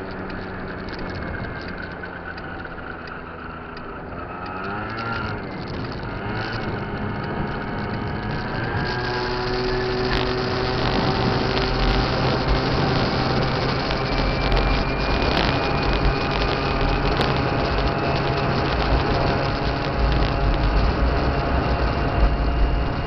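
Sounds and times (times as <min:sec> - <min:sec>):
scooter engine accelerating: 0:00.0 - 0:23.0
wind rumble on microphone: 0:00.0 - 0:23.0.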